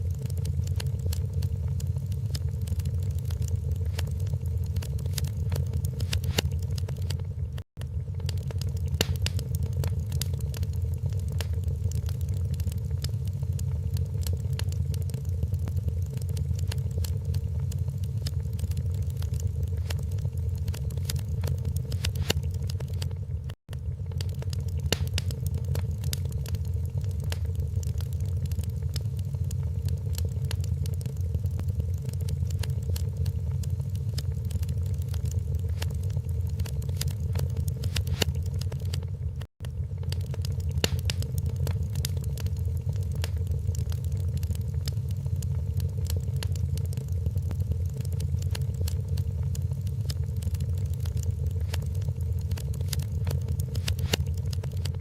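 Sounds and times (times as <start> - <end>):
low roar of flames: 0.0 - 55.0
wood fire crackling: 0.0 - 55.0.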